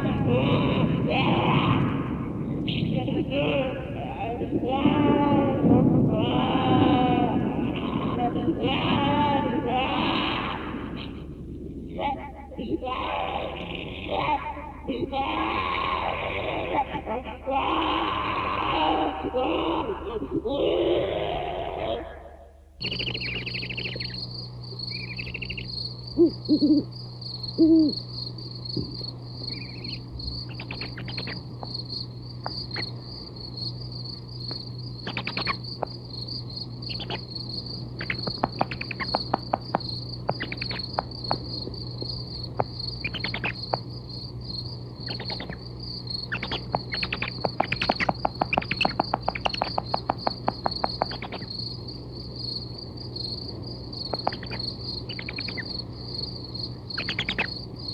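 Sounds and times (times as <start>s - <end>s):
low hoots: 0.0s - 33.8s, 34.4s - 51.6s, 54.1s - 55.9s, 57.0s - 57.5s
crickets chirping: 0.0s - 57.9s
low tape hum: 0.0s - 57.9s.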